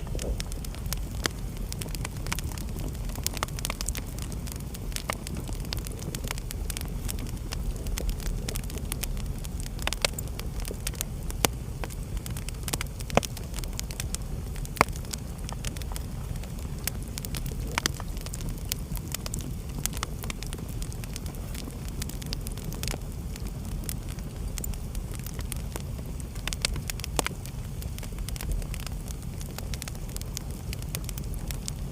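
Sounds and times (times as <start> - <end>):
wood fire crackling in fireplace: 0.0 - 31.9.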